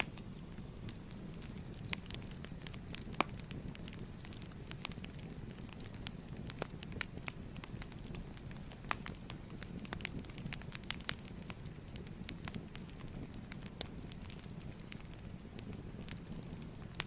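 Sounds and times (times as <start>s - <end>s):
fire popping and snapping: 0.0s - 17.0s
flames rumbling: 0.0s - 17.0s.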